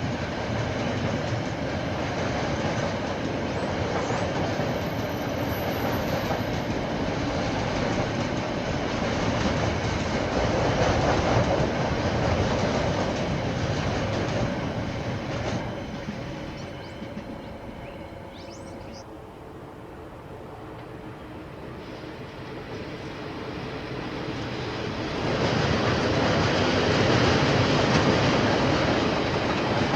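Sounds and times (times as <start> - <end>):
train wheels on rails: 0.0 - 29.9.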